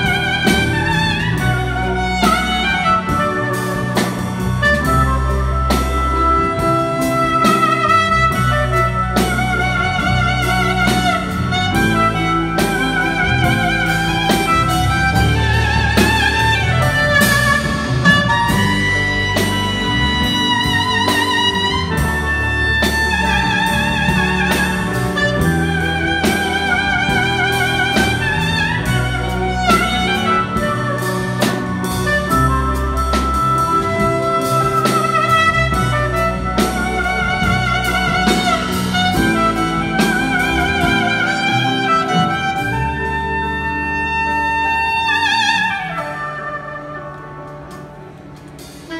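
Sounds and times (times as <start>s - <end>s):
drum kit: 0.0s - 48.9s
electric bass: 0.0s - 48.9s
electric guitar: 0.0s - 48.9s
horn melody with vibrato: 0.0s - 48.9s
keyboard: 0.0s - 48.9s.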